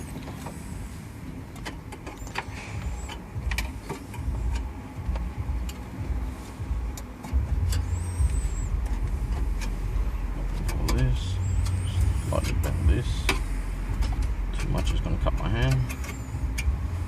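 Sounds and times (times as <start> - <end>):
low rumble: 2.2 - 17.0.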